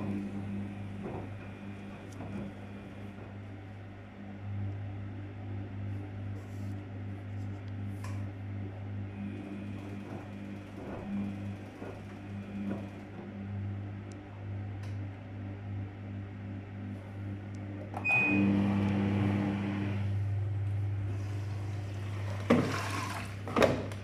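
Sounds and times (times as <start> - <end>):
washing machine motor hum: 0.0 - 24.0.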